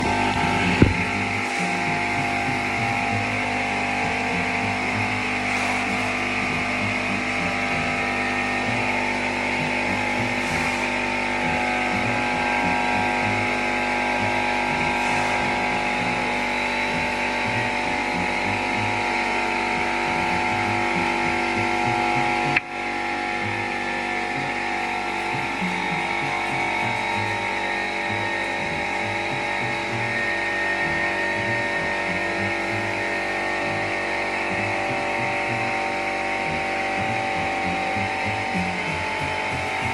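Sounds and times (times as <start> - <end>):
compressor humming and hissing: 0.0 - 39.9.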